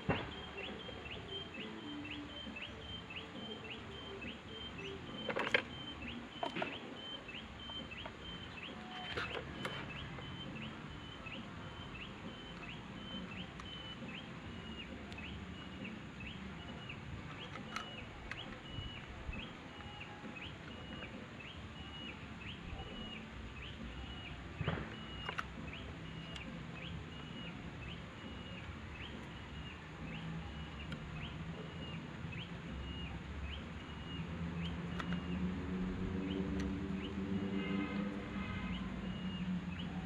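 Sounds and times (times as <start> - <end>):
bird chirping: 0.0 - 40.0
sharp clicks: 0.0 - 40.0.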